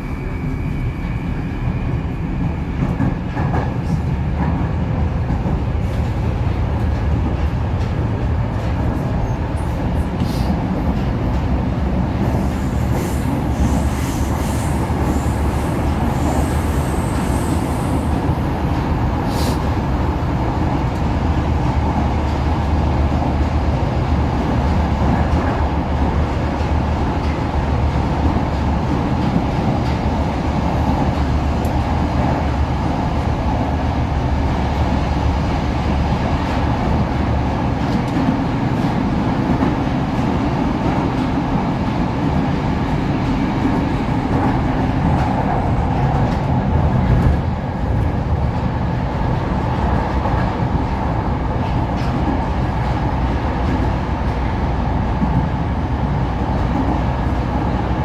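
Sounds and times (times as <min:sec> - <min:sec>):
metro train wheels rumbling: 0:00.0 - 0:58.0.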